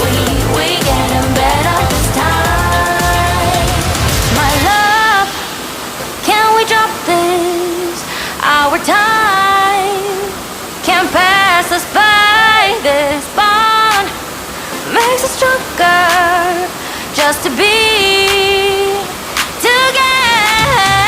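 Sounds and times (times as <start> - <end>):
falling water hiss: 0.0 - 21.0
woman singing: 0.0 - 21.0.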